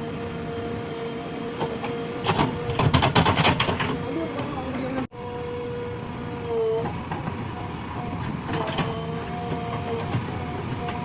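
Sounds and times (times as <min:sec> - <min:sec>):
backhoe engine rumble: 0:00.0 - 0:11.0.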